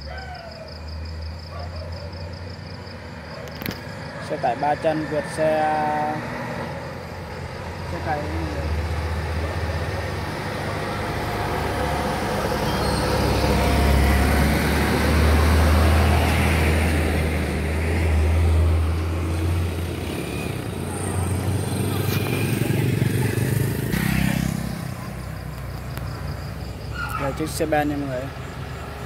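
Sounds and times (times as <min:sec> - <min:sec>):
truck engine drone: 0:00.8 - 0:29.0.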